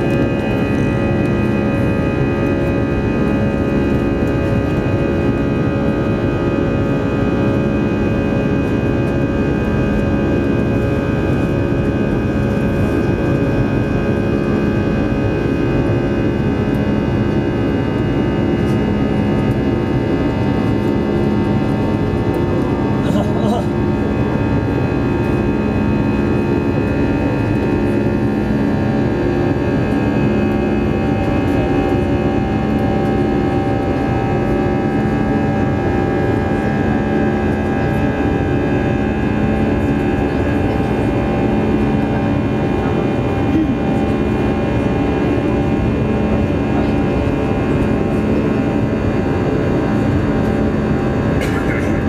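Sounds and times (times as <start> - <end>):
aircraft engine drone: 0.0 - 52.0.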